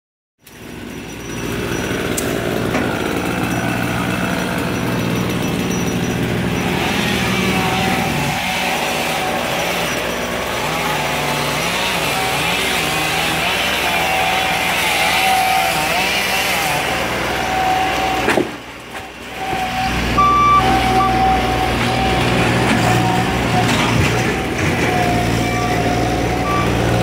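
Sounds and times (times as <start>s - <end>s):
chainsaw engine running: 0.4s - 27.0s.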